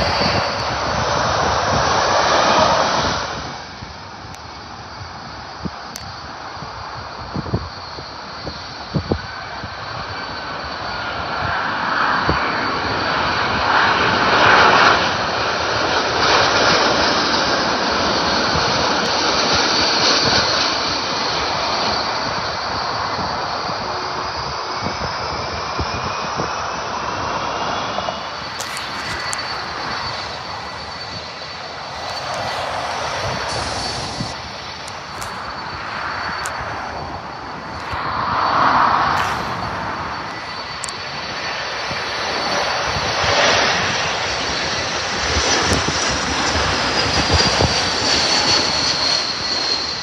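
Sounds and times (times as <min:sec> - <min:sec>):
distant jet: 0:00.0 - 0:50.0
jet roar with high whine: 0:00.0 - 0:50.0.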